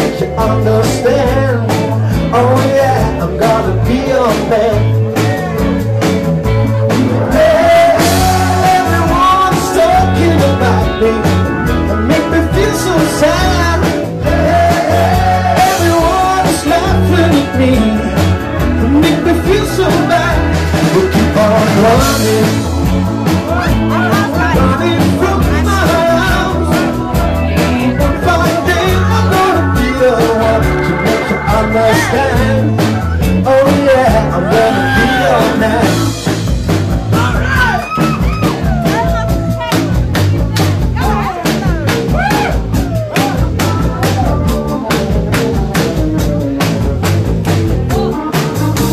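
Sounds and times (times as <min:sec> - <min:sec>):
live rock band playing: 0:00.0 - 0:48.9
man singing: 0:00.0 - 0:48.9.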